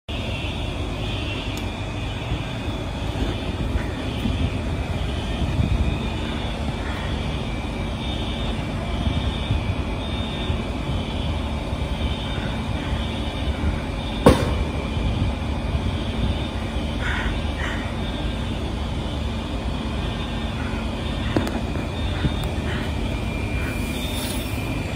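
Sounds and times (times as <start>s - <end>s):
low rumbling outdoor noise: 0.1s - 24.9s.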